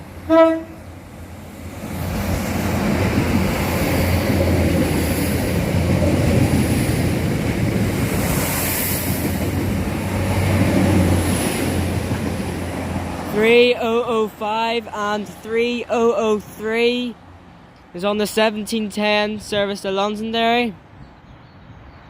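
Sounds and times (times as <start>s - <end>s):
train passing with wheels on rail: 0.0s - 22.0s.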